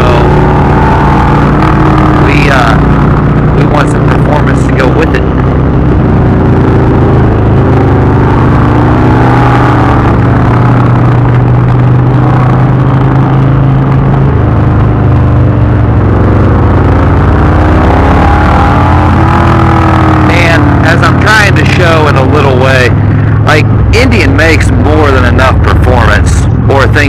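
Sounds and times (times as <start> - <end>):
motorcycle engine running: 0.0 - 27.0
wind and road rush: 0.0 - 27.0.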